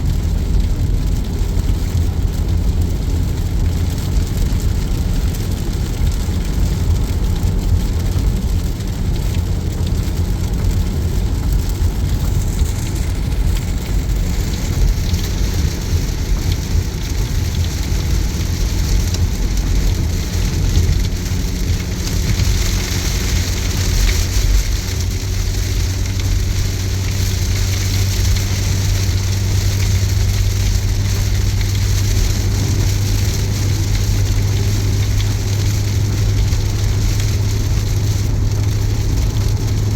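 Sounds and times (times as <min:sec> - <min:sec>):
heavy rain hitting a car: 0:00.0 - 0:39.9.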